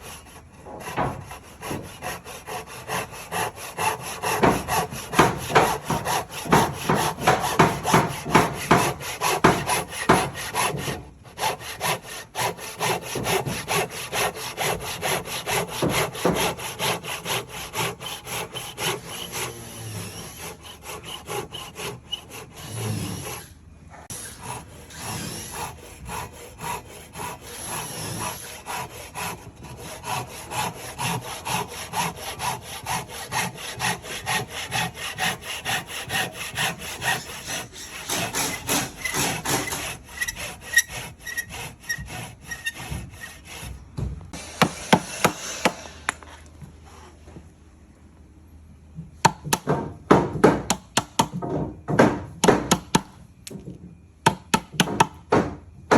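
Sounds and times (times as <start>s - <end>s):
hand saw cutting timber: 0.0s - 46.3s.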